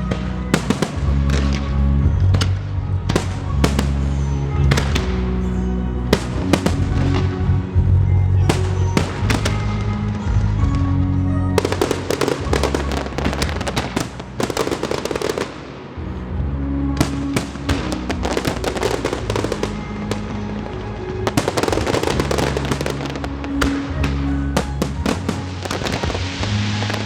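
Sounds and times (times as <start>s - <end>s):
fireworks bangs and crackles: 0.0s - 11.0s, 11.6s - 27.0s
music with low notes: 0.0s - 27.0s.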